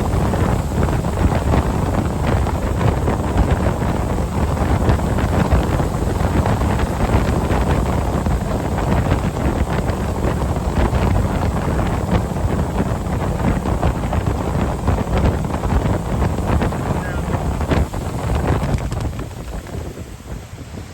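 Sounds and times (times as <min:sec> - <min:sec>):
boat engine: 0:00.0 - 0:20.9
wind buffeting microphone: 0:00.0 - 0:20.9.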